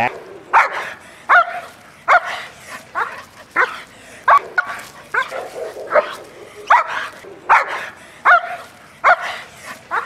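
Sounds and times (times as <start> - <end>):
dog barking sharply: 0.1 - 2.4, 3.0 - 10.0.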